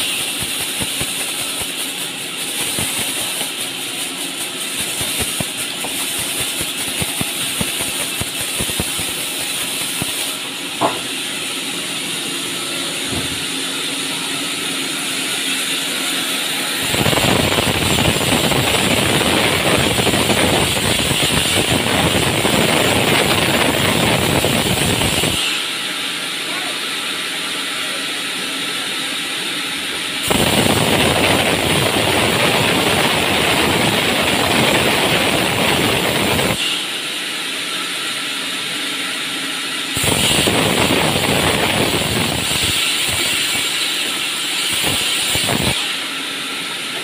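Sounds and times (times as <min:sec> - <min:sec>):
band saw running: 0:00.0 - 0:47.0.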